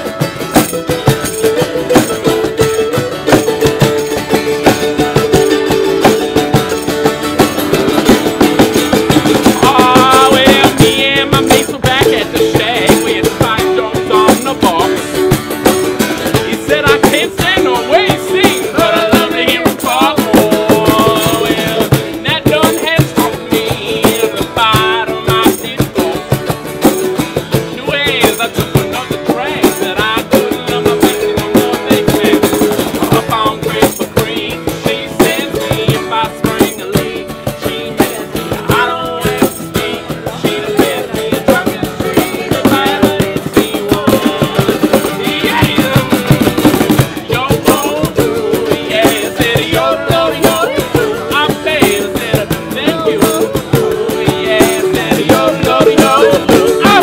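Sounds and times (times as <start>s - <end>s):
acoustic band playing: 0.0s - 57.0s.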